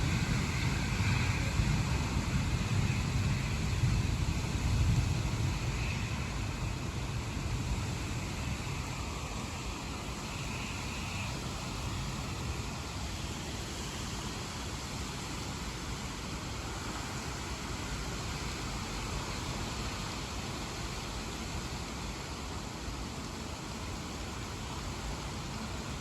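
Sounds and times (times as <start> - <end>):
rain and wind hiss: 0.0 - 26.0.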